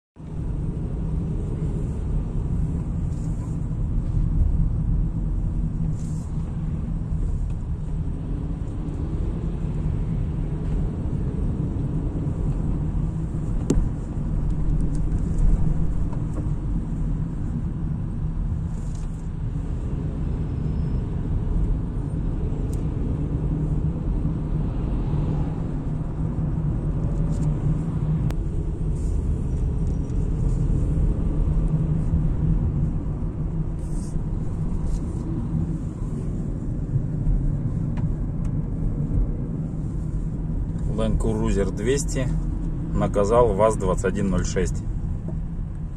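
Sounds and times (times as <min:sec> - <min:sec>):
car interior engine and tyre noise: 0:00.2 - 0:45.9.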